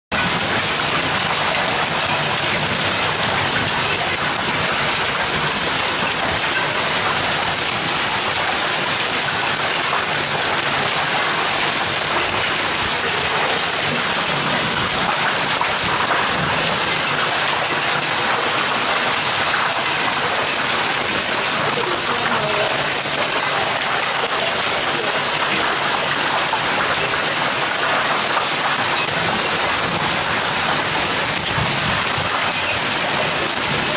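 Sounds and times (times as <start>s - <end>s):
heavy rain drumming: 0.1s - 33.9s.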